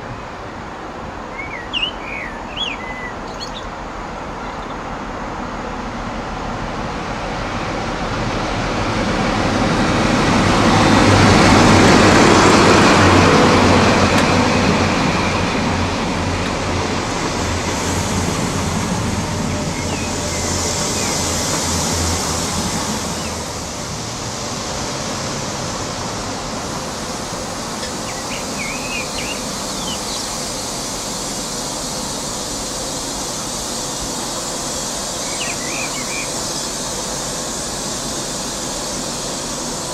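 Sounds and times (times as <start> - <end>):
diesel train passing: 0.0 - 39.9.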